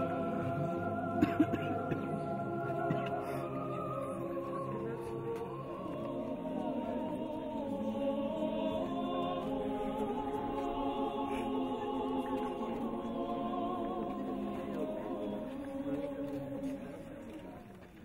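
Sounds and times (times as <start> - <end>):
mixed choir singing a hymn: 0.0 - 17.6.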